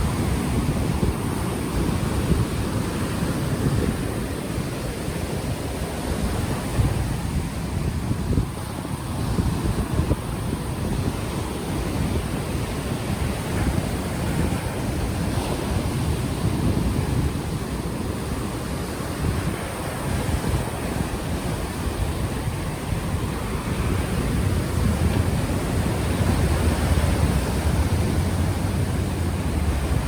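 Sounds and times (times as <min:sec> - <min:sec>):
ocean waves washing ashore: 0:00.0 - 0:30.0
wind buffeting microphone: 0:00.0 - 0:30.0.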